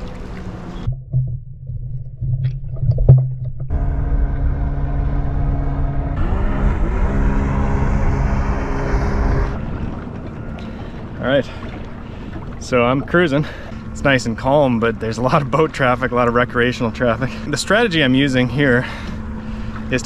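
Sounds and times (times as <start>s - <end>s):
motor engine rumbling: 0.0s - 20.0s.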